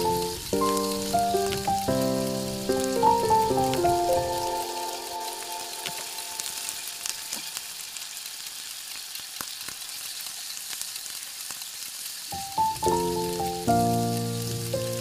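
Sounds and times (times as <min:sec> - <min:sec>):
potatoes sizzling in pot: 0:00.0 - 0:15.0.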